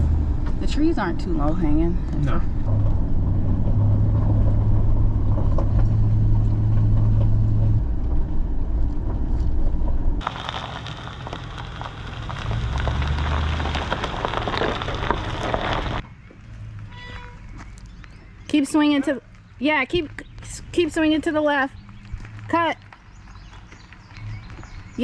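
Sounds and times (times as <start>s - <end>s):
vehicle engine low hum: 0.0s - 25.0s
dense crackling crunching noise: 2.6s - 18.2s, 19.3s - 25.0s.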